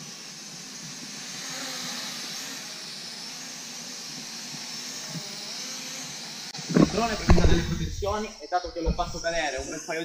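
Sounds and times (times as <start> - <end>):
drone propellers whirring: 0.6 - 9.9.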